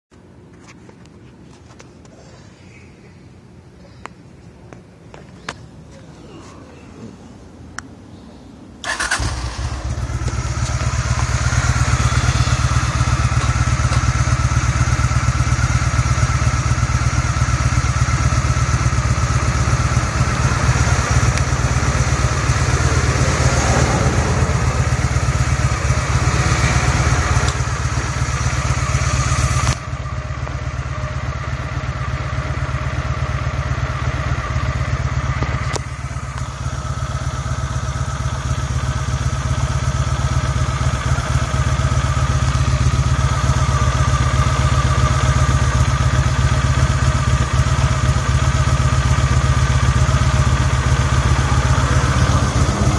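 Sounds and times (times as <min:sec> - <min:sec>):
motorcycle engine idling: 0:08.8 - 0:52.9
motorcycle engine starting: 0:08.8 - 0:52.9.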